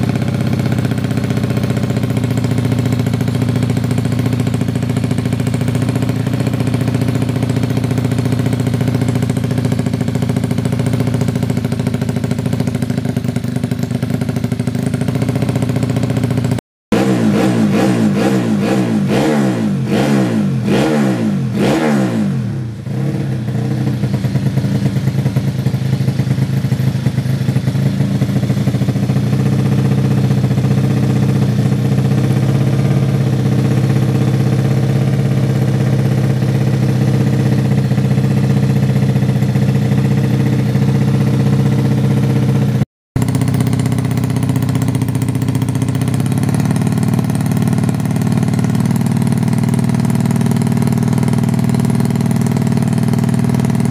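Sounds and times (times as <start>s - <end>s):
motorcycle engine revving and idling: 0.0s - 53.9s.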